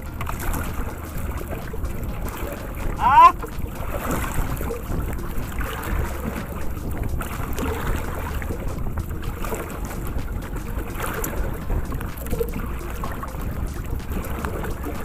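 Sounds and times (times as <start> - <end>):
choppy sea washing: 0.0 - 15.0
wind rumbling on microphone: 0.0 - 15.0.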